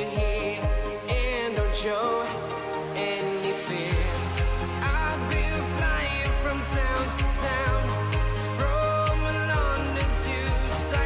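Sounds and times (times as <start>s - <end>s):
pop music with steady beat: 0.0s - 11.0s.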